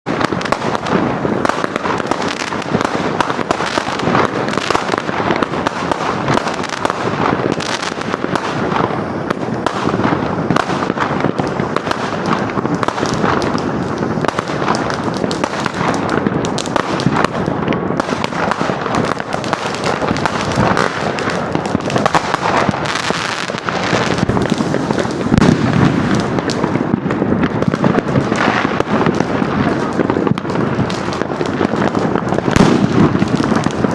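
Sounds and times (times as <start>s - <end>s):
fireworks and firecrackers crackling: 0.0s - 33.9s.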